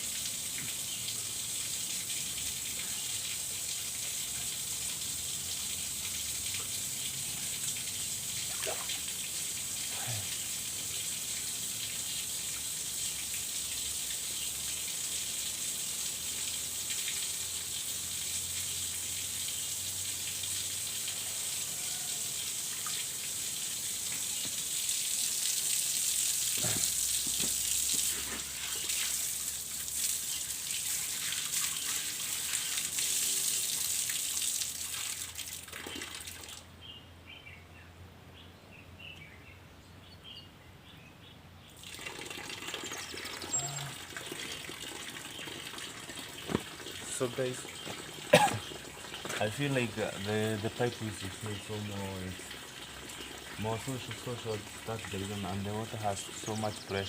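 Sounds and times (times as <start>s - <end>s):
water spraying from pipe: 0.0s - 36.6s, 41.8s - 57.0s.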